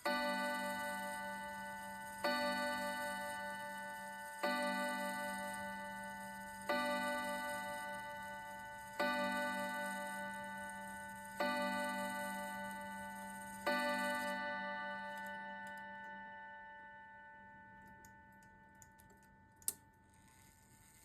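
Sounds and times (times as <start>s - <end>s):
clock chime rods striking: 0.0s - 20.1s.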